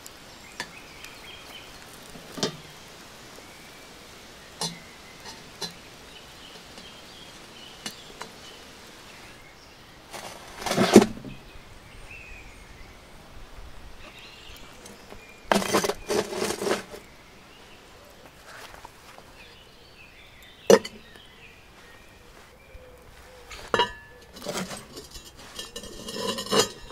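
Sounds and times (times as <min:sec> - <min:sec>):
bricks crunching and scraping on embers: 0:00.5 - 0:09.4, 0:10.0 - 0:11.6, 0:14.0 - 0:26.9.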